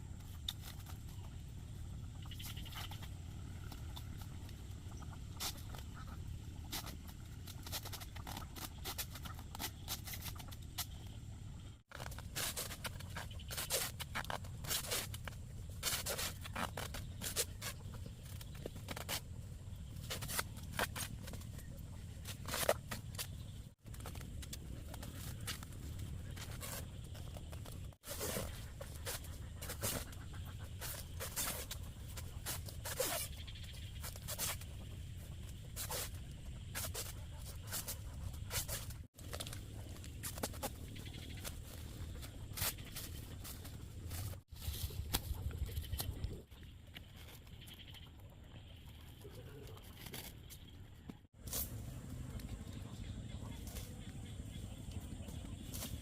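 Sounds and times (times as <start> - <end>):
camping gear rustling and clicking: 0.0 - 52.7.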